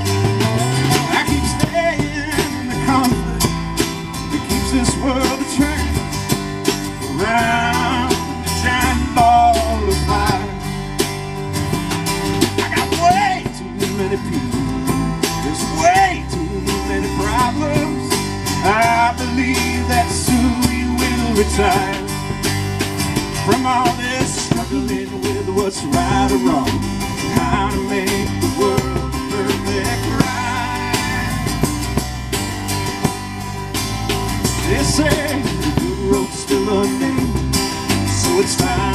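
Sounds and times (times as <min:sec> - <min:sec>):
live country band music: 0:00.0 - 0:38.9.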